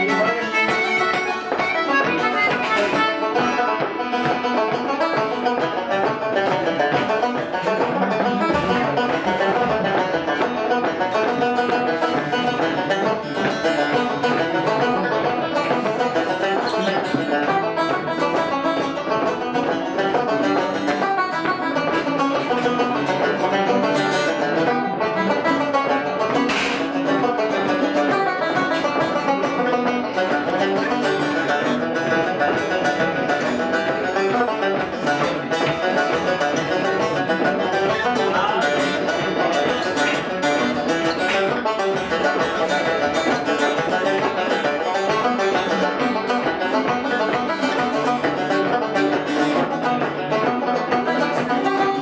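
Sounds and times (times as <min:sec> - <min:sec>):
banjo: 0:00.0 - 0:52.0
fiddle: 0:00.0 - 0:52.0.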